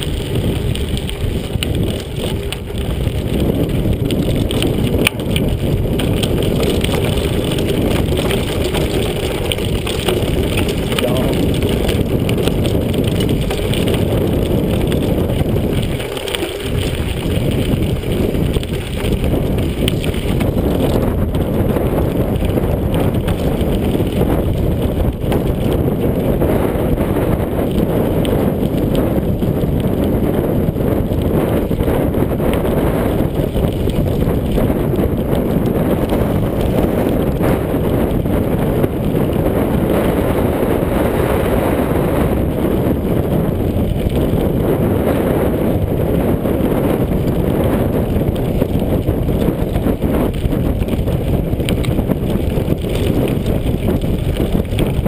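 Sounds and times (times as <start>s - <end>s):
bike knocking and rattling: 0.0s - 55.0s
bike tyres rolling on dirt: 0.0s - 55.0s
wind buffeting microphone: 0.0s - 55.0s.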